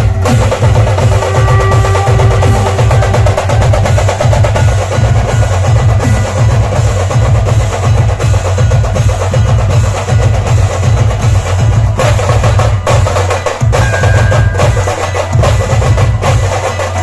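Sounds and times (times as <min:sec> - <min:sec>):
rapid cracking drum strokes: 0:00.0 - 0:13.8
deep drum beats: 0:00.0 - 0:17.0.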